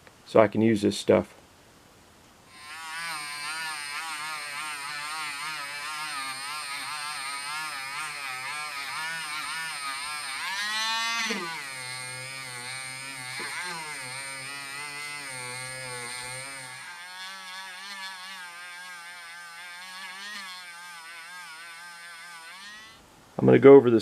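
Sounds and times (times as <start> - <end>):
small electric motor running: 2.5 - 23.0.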